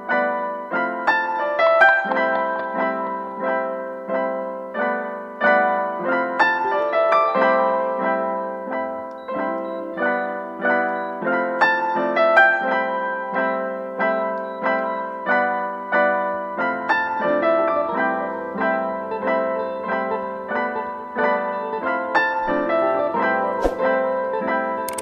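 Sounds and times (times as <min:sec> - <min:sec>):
piano chords: 0:00.0 - 0:25.0.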